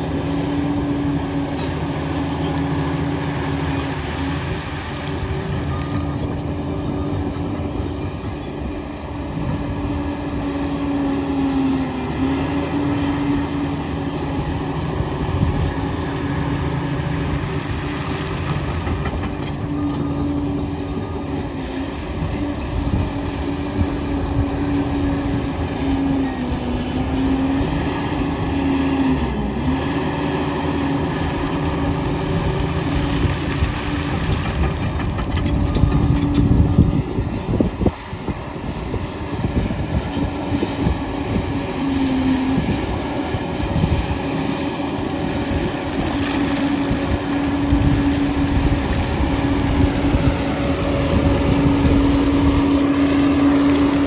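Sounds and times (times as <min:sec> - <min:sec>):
dozer engine whine: 0:00.0 - 0:54.0.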